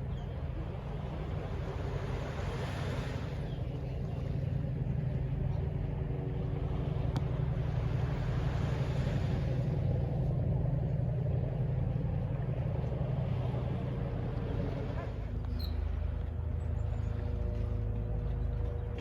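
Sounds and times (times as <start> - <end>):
distant city traffic rumble: 0.0 - 19.0
faint engine hum: 0.0 - 19.0.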